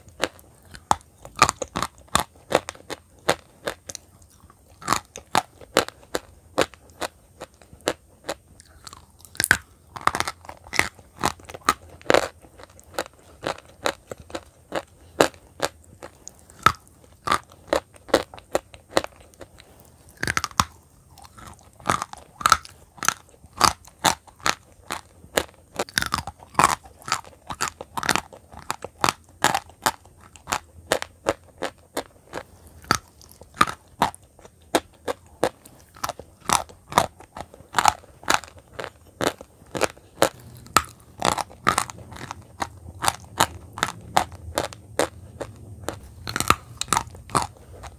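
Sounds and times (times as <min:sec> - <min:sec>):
chalk being chewed: 0:00.0 - 0:47.9.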